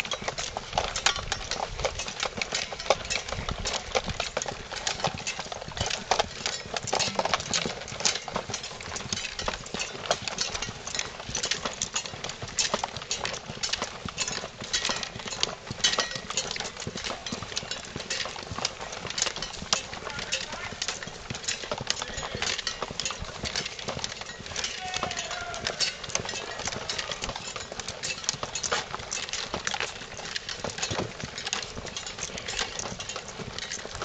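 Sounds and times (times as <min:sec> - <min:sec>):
footsteps on dirt path: 0:00.0 - 0:34.0
gear clattering and rattling: 0:00.0 - 0:34.0.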